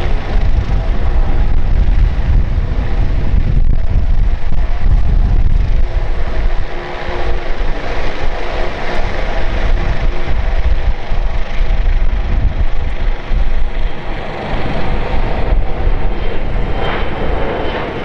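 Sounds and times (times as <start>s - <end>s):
faint jet whine: 0.0s - 18.0s
jet engine rumble: 0.0s - 18.0s.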